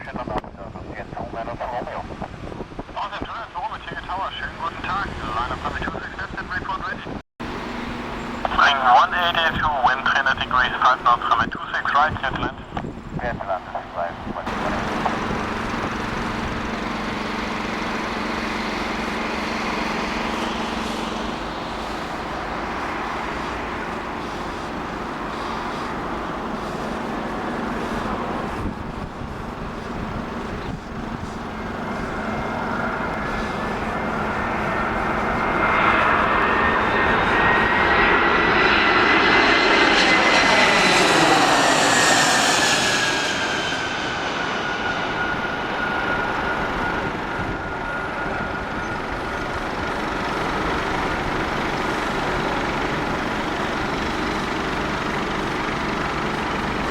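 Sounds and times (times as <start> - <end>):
airliner flying past: 0.0 - 56.9.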